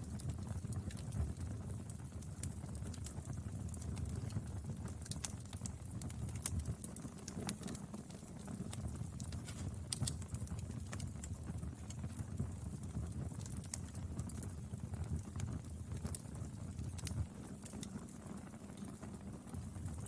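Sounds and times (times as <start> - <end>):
fire low rumble: 0.0 - 20.0
firewood crackling and popping: 0.0 - 20.0.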